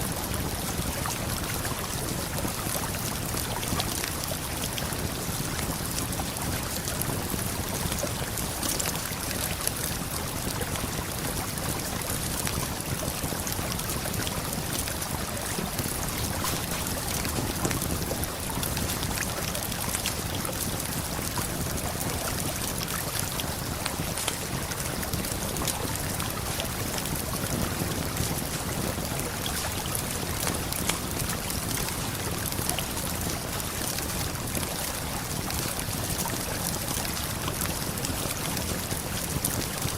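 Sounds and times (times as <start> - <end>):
campfire crackling and popping: 0.3 - 39.9.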